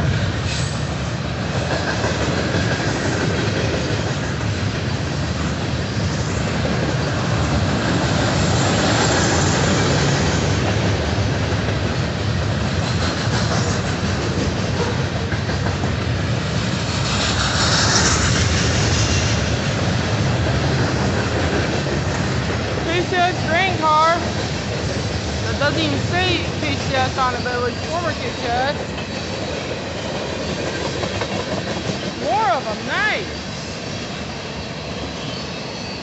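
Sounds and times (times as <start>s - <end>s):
freight train rolling past: 0.0s - 36.0s
high-pitched rail noise: 0.0s - 36.0s
steel wheels clattering on rails: 0.0s - 36.0s.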